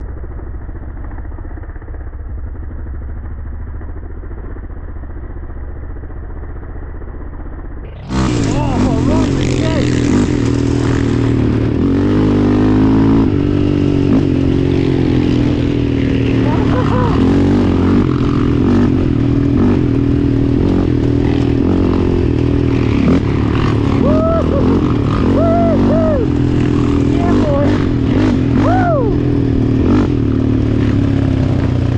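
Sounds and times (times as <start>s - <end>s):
off-road vehicle engine idling: 0.0s - 31.9s.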